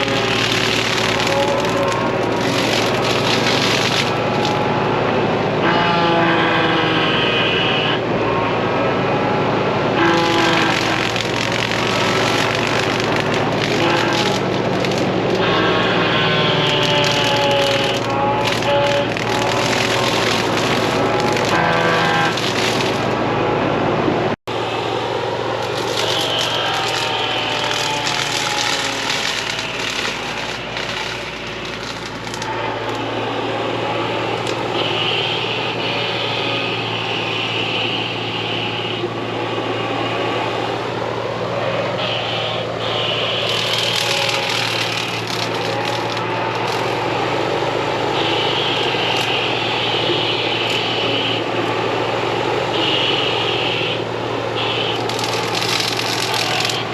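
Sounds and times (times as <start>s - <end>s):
excavator diesel engine running: 0.0s - 56.9s
high hydraulic whine: 0.0s - 56.9s.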